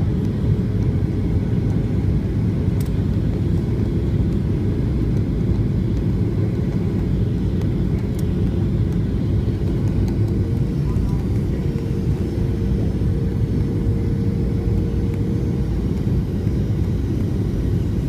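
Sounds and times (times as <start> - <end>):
faint steady hum: 0.0 - 18.0
jet airliner rumble: 0.0 - 18.0.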